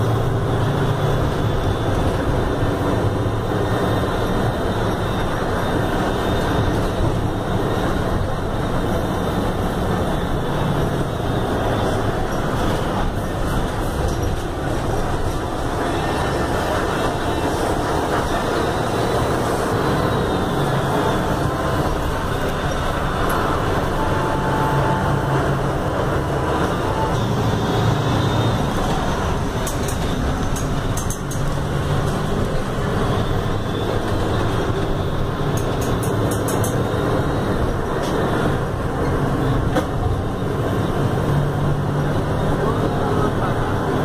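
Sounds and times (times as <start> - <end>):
bus diesel engine running: 0.0 - 44.0
road and body noise: 0.0 - 44.0.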